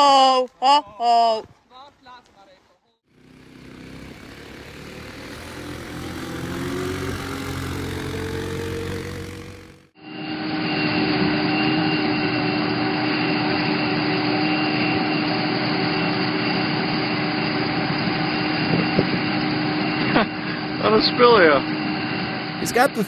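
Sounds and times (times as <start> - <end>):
engine drone: 3.1 - 23.0.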